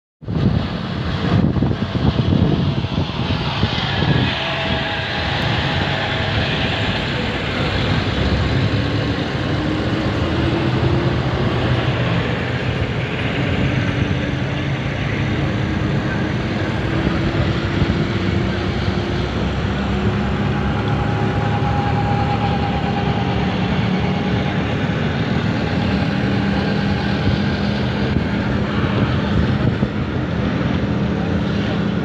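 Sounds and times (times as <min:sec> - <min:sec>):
bus engine rumble: 0:00.2 - 0:32.0
wind noise at window: 0:00.2 - 0:32.0.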